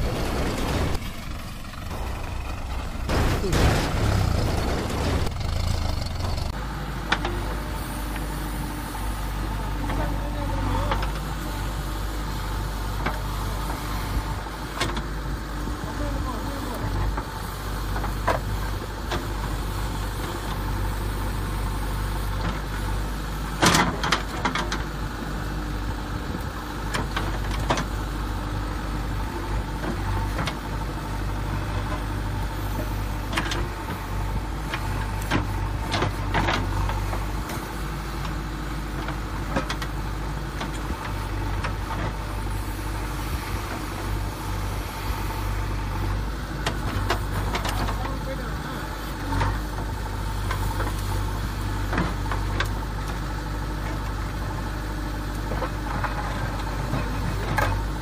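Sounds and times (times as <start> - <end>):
low engine-like hum: 0.0 - 58.0.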